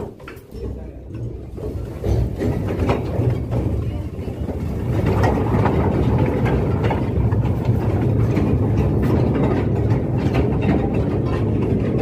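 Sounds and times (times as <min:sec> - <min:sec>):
metallic clattering: 0:00.0 - 0:12.0
machinery low rumble: 0:00.8 - 0:12.0.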